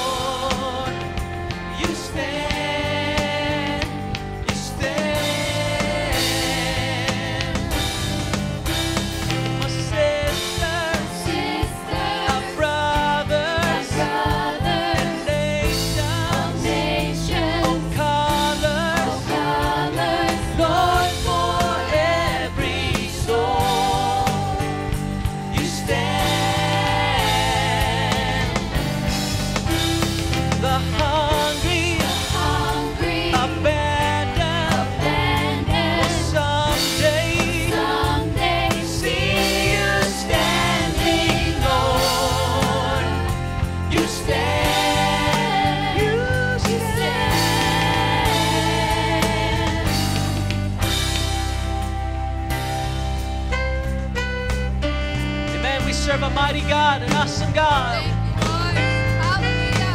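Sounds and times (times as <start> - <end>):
group singing together: 0.0 - 51.4
worship band playing: 0.0 - 59.9.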